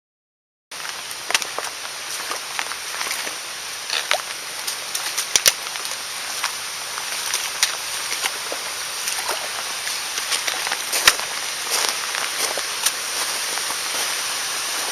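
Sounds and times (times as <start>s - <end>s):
mountain stream flowing: 0.8s - 14.9s.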